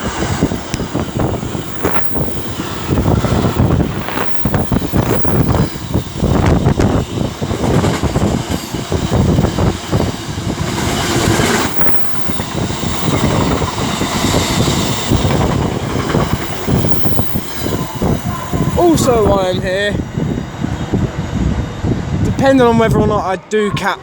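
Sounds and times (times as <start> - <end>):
freight train passing: 0.0 - 24.0.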